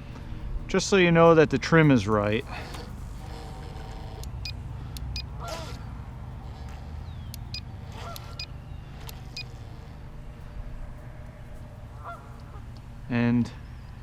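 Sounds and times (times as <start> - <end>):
geese honking: 0.0 - 14.0
low rumble: 0.0 - 14.0.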